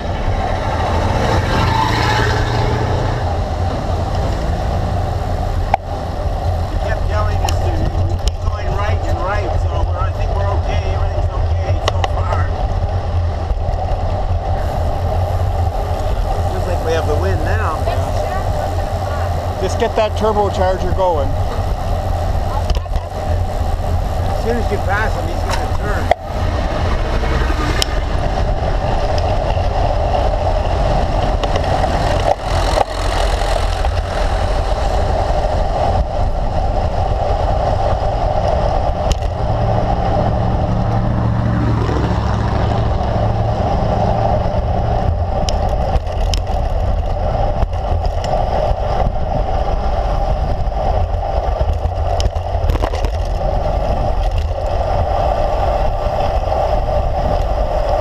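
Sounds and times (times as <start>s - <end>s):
bus engine hum: 0.0s - 58.0s
wind and road rumble: 0.0s - 58.0s.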